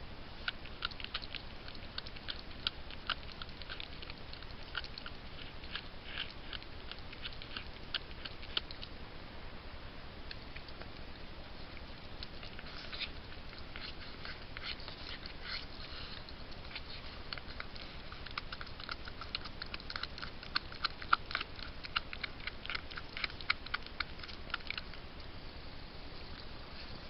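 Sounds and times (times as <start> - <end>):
steady hiss: 0.0 - 27.0
animal chewing with sharp clicks: 0.3 - 9.0, 10.2 - 25.4.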